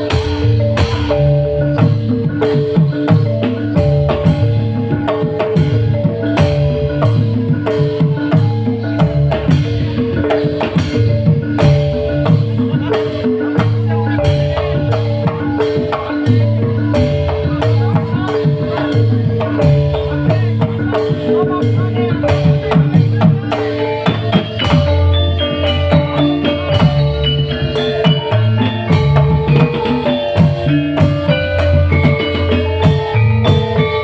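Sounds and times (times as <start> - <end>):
live band music: 0.0 - 34.0
tuned mallet percussion: 0.0 - 34.0.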